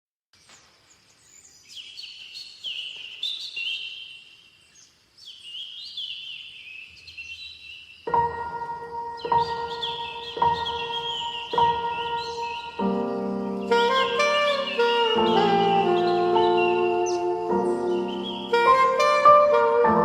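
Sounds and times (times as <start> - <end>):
birds chirping and trilling: 0.4 - 19.5.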